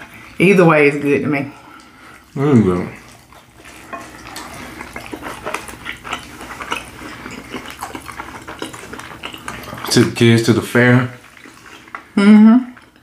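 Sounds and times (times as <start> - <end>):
chewing and wet mouth sounds: 0.0 - 13.0.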